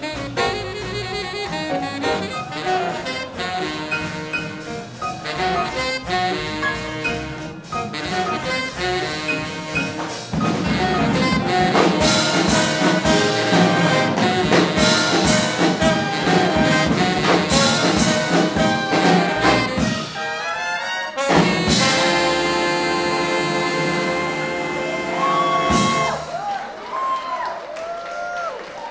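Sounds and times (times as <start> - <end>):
big band swing jazz: 0.0 - 26.8.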